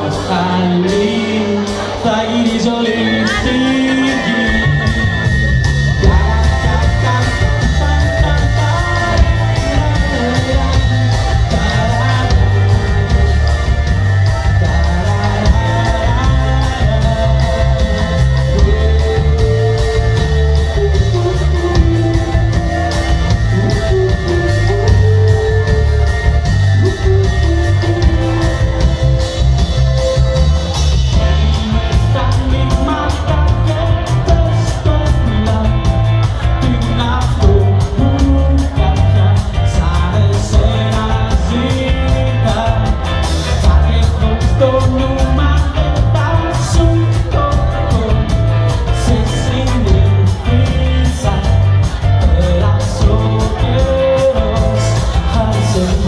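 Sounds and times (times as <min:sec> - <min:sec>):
bass guitar: 0:00.0 - 0:56.0
drums: 0:00.0 - 0:56.0
guitar: 0:00.0 - 0:56.0
melodic lead line: 0:00.0 - 0:56.0.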